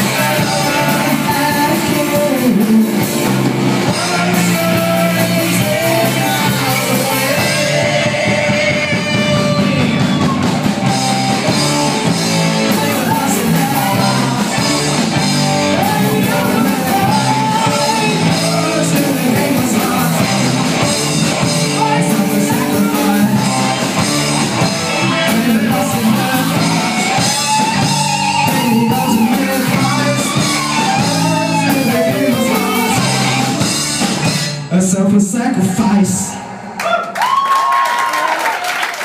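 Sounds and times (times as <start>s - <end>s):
person singing: 0.0s - 24.1s, 24.9s - 33.6s
bass guitar: 0.0s - 36.7s
electric guitars: 0.0s - 36.8s
keyboard: 0.0s - 36.8s
drums: 0.0s - 39.0s.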